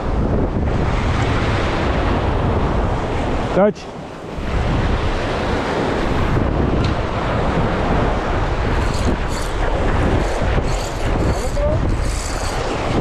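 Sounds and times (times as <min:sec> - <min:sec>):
sea waves breaking on rocks: 0:00.0 - 0:13.0
wind buffeting the microphone: 0:00.0 - 0:13.0.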